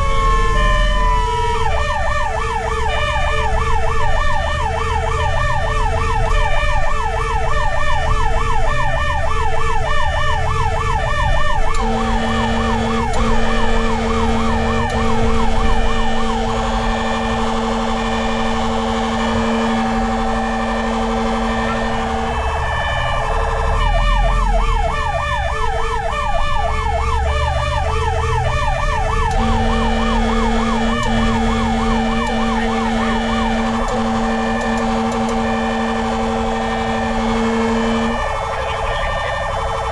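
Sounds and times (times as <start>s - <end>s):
low steady siren tone: 0.0s - 39.9s
pulsing siren tone: 0.0s - 39.9s
siren yelp: 0.0s - 39.9s
truck engine rumble: 0.0s - 39.9s.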